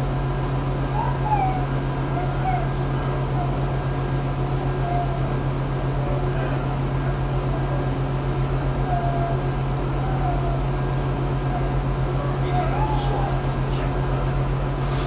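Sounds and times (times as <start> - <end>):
train running drone: 0.0 - 15.0.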